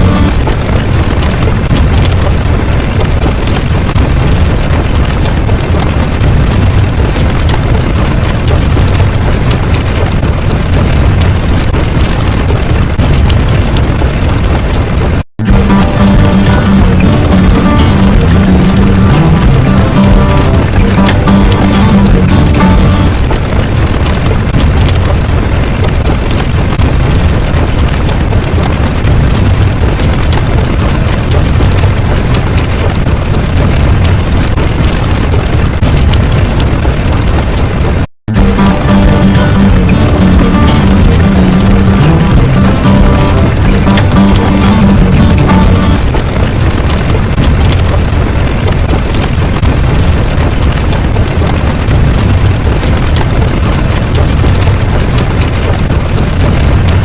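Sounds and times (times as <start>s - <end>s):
faint crackles: 0.0s - 57.0s.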